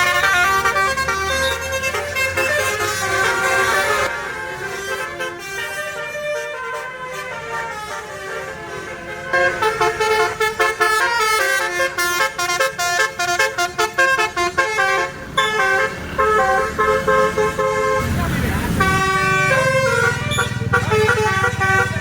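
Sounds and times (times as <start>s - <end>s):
multi-tone bus horn melody: 0.0s - 22.0s.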